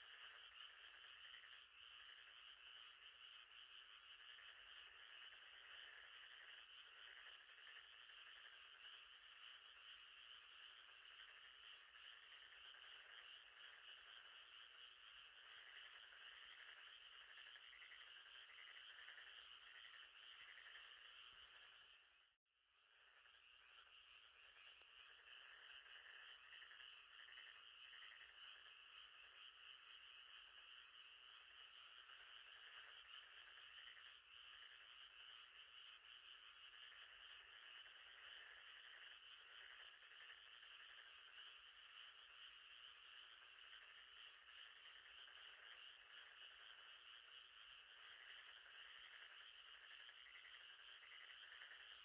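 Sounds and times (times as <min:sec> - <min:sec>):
frogs calling: 0:00.0 - 0:22.3, 0:22.9 - 0:52.0.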